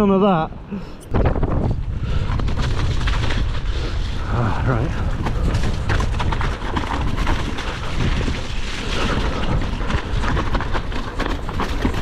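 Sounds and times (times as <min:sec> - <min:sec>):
wind buffeting microphone: 0:00.6 - 0:12.0
bike knocking and rattling: 0:01.0 - 0:12.0.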